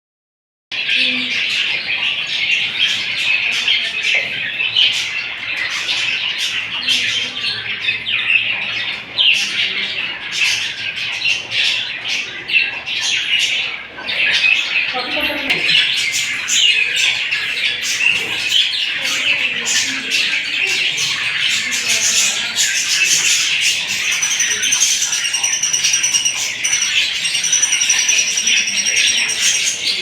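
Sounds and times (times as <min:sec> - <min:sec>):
budgerigars chattering: 0:00.8 - 0:30.0.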